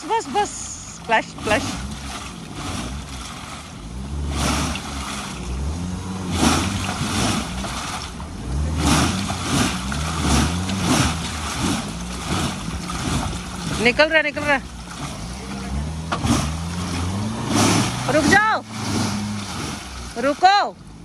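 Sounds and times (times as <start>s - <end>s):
engine revving: 0.0s - 21.0s
tyres spinning in mud: 0.0s - 21.0s.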